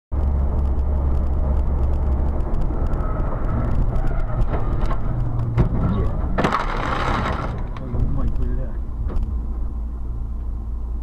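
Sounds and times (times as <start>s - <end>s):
car engine and road noise: 0.1s - 11.0s.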